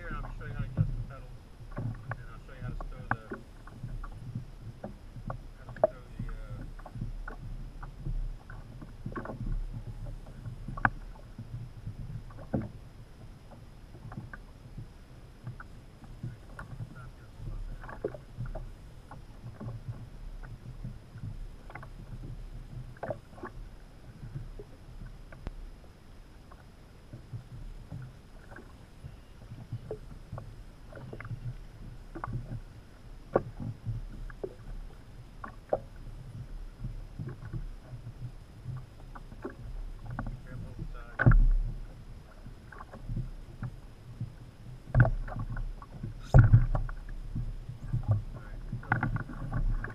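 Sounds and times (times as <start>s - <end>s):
small splashes and knocks: 0.0s - 12.8s, 15.4s - 23.6s, 26.4s - 32.7s, 33.3s - 49.9s
low rumble: 0.0s - 49.9s
water lapping against hull: 0.0s - 49.9s.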